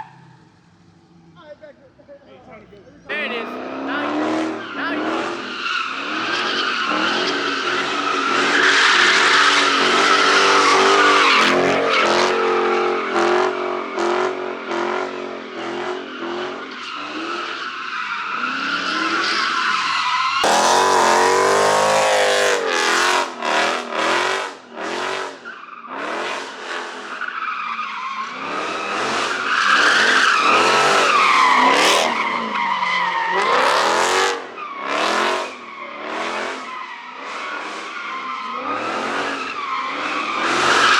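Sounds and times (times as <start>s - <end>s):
tires squealing: 0.0s - 1.5s, 3.0s - 40.9s
car engine revving hard: 3.3s - 17.5s, 20.4s - 27.2s, 28.3s - 40.9s.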